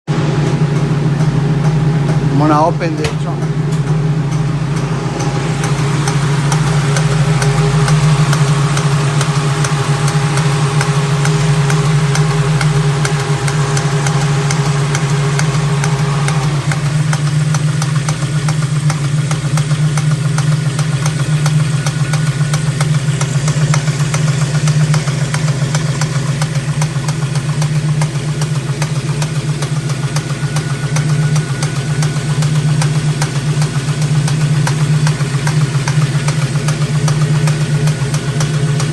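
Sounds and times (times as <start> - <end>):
engine idling: 0.1 - 38.9
fast even engine ticking: 0.2 - 38.9.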